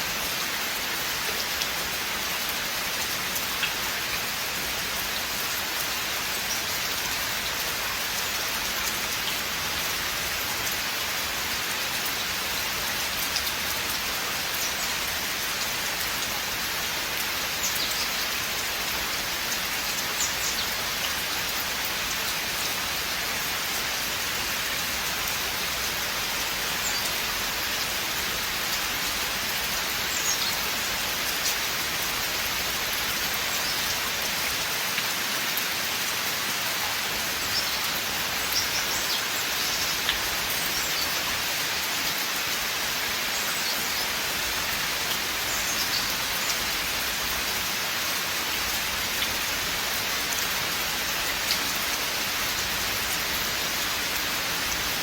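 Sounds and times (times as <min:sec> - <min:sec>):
rain hissing in forest: 0:00.0 - 0:55.0.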